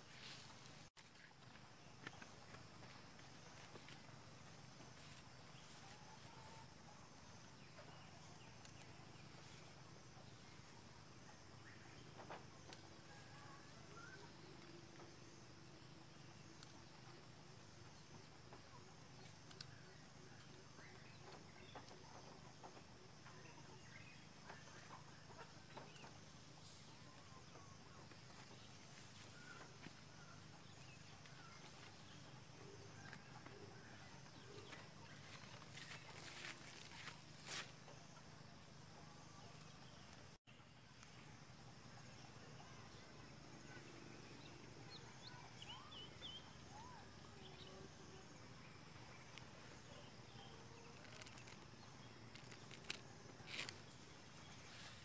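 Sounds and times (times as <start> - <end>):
faint bird chirps: 5.0 - 55.0.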